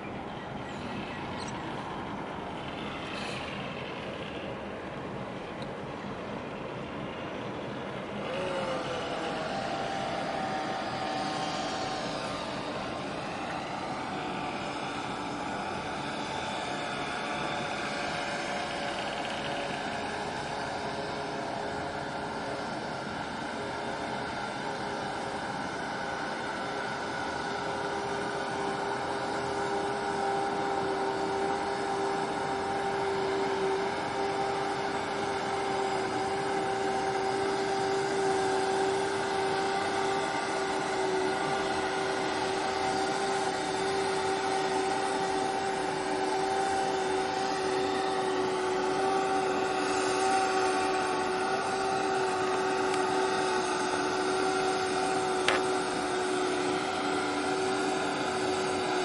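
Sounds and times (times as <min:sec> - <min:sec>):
ship machinery hum: 0:00.0 - 0:59.0.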